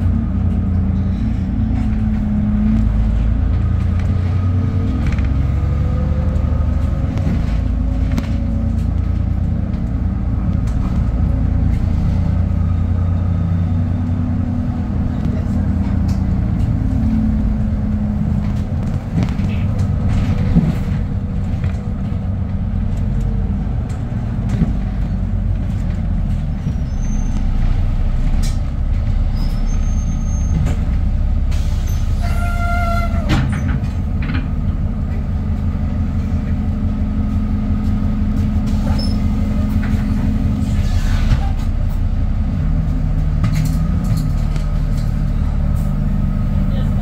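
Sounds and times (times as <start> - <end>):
bus engine humming: 0.0 - 47.0.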